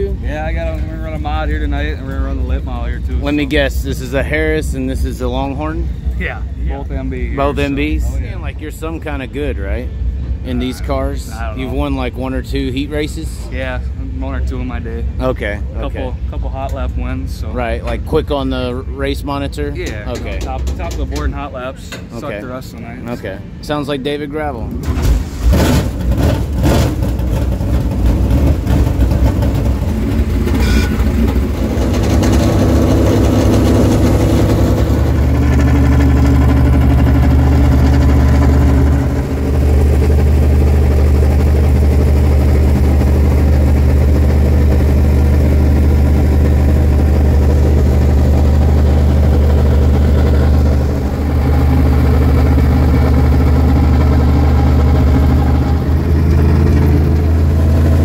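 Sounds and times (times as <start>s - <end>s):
race car engine idling: 0.0s - 22.3s, 24.7s - 58.0s.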